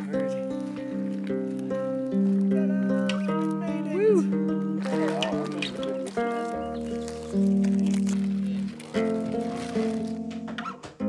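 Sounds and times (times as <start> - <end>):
music of long held notes: 0.0 - 11.0.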